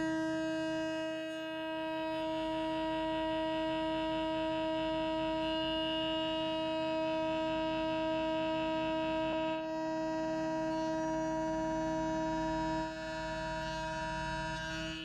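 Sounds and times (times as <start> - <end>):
mill spindle high whine: 0.0 - 15.0.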